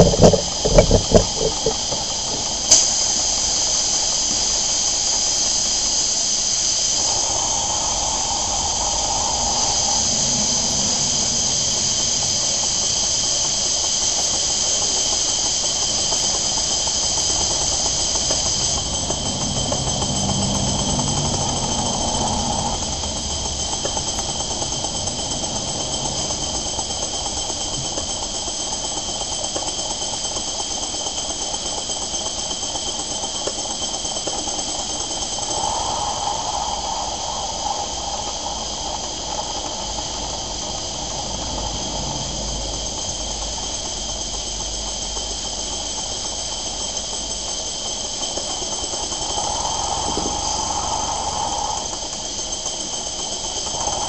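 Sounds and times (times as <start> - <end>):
model steam engine running: 0.0 - 54.0
steam hiss: 0.0 - 54.0.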